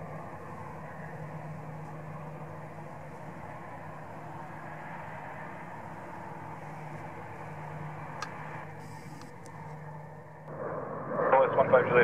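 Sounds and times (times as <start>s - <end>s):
distant jet engines idling: 0.0s - 12.0s.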